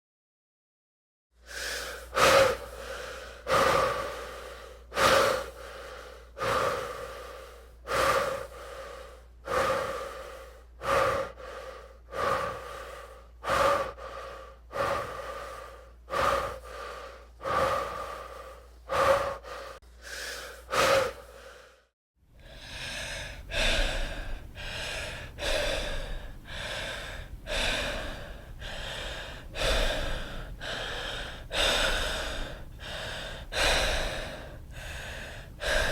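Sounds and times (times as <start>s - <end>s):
heavy breathing: 1.4s - 35.9s
person panting: 1.4s - 35.9s.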